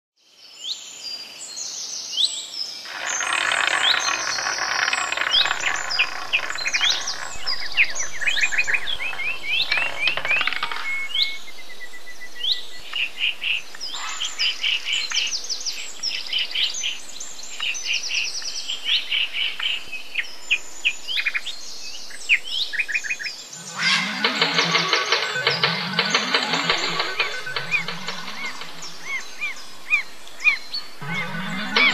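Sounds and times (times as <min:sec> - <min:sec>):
songbirds chirping: 0:00.2 - 0:31.9.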